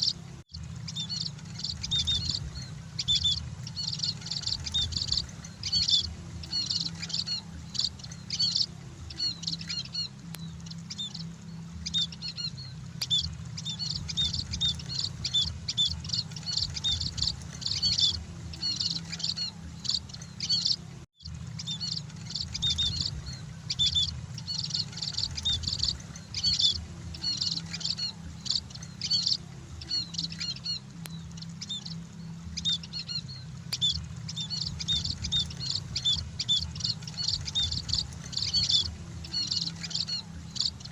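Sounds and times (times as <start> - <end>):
birds chirping: 0.0 - 40.9
steady low hum: 0.0 - 40.9.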